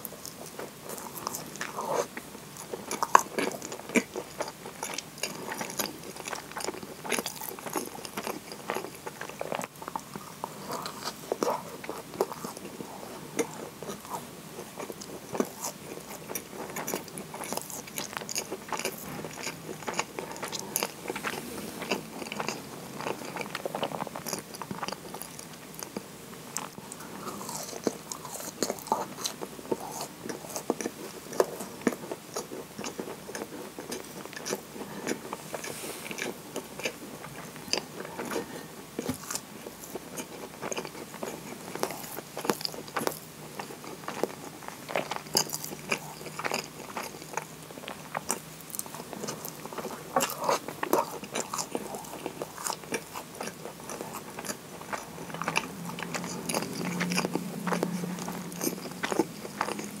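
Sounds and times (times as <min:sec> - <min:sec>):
biting and chewing scone: 0:00.0 - 1:00.0.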